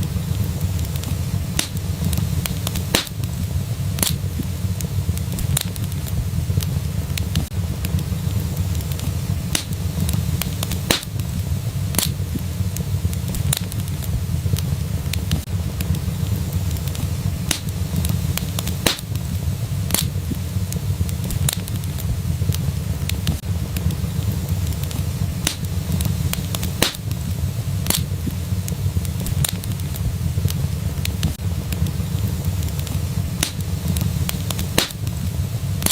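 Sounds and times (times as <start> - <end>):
low fire rumble: 0.0 - 35.9
wood fire crackling: 0.0 - 35.9.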